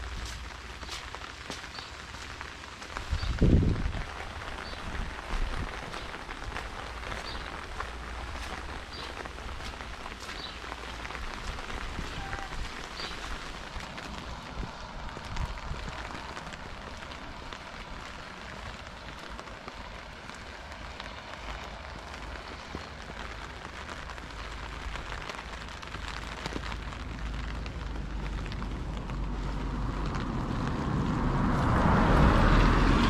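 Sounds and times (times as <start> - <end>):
car tyres hissing on wet road: 0.0 - 33.0
rain pattering: 0.0 - 33.0.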